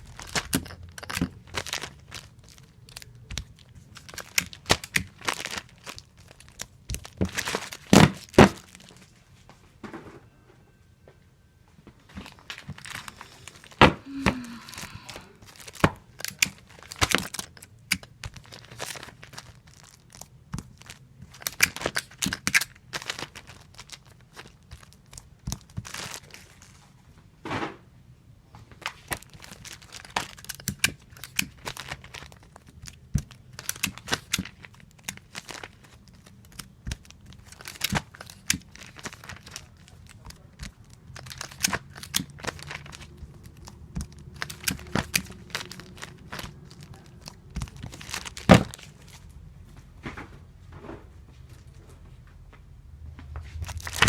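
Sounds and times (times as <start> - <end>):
crinkling and handling clicks: 0.0 - 9.2, 12.0 - 27.0, 28.6 - 49.4, 53.2 - 54.0.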